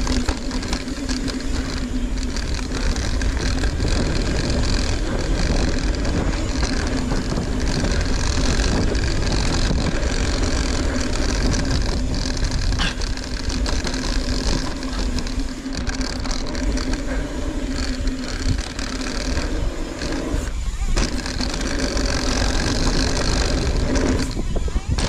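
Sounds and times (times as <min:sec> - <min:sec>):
bike clicks and rattles: 0:00.0 - 0:25.0
steady low hum: 0:00.0 - 0:25.0
wind on microphone: 0:00.0 - 0:25.0.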